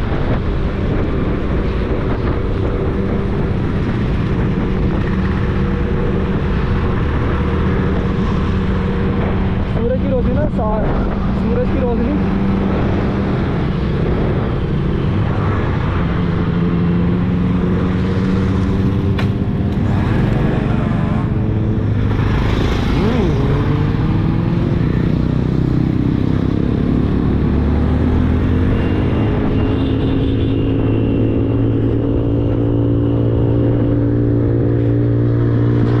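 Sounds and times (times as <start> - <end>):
wind and road noise: 0.0 - 36.0.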